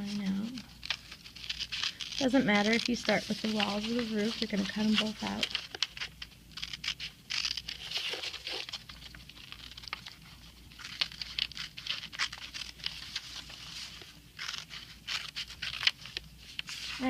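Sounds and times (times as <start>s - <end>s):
paper rustling: 0.0s - 17.0s
scissors cutting paper: 0.0s - 17.0s.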